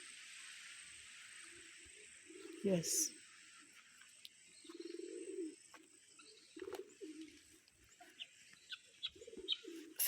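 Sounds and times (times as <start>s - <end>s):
low drawn-out bird calls: 1.3s - 10.0s.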